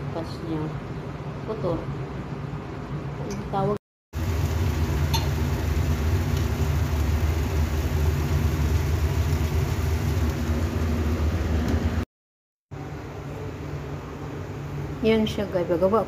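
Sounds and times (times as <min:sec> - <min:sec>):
electric oven humming: 0:00.0 - 0:12.1, 0:12.7 - 0:16.0.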